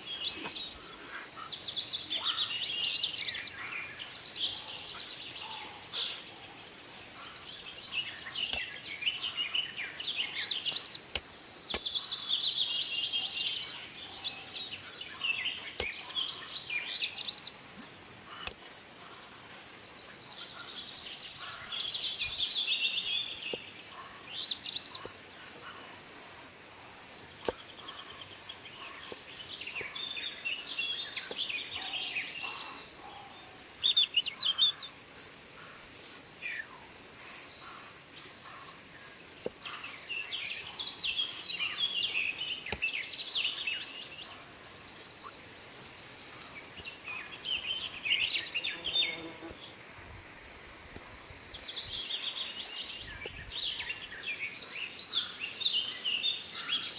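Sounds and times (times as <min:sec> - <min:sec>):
birds chirping and singing: 0:00.0 - 0:49.8, 0:50.4 - 0:56.9.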